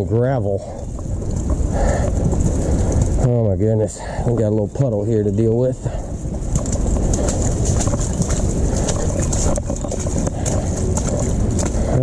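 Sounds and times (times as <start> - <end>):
tyres churning through mud: 0.0 - 12.0.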